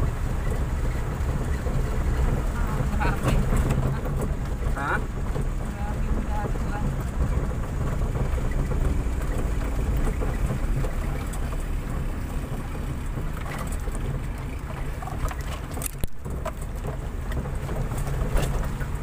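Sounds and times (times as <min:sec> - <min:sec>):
car driving on dirt road: 0:00.0 - 0:19.0
sharp clicks and knocks: 0:00.4 - 0:19.0.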